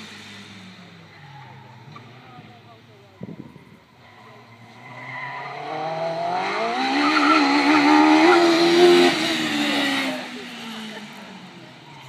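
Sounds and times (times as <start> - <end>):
racing car engine at full throttle: 0.0 - 12.0.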